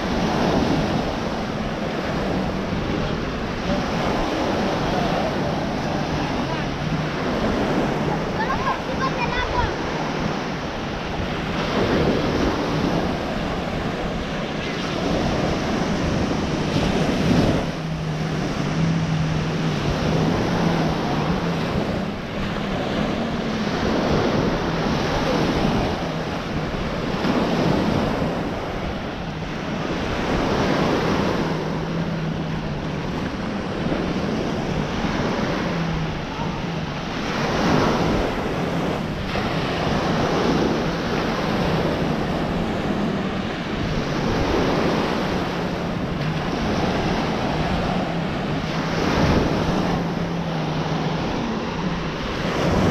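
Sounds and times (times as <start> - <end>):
small waves breaking on shore: 0.0 - 52.9
wind buffeting microphone: 0.0 - 52.9.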